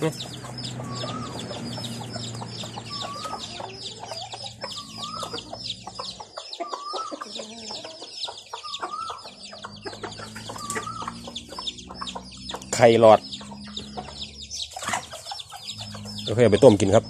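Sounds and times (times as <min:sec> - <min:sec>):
chicken calling: 0:00.0 - 0:17.0
chicks peeping: 0:00.0 - 0:17.0.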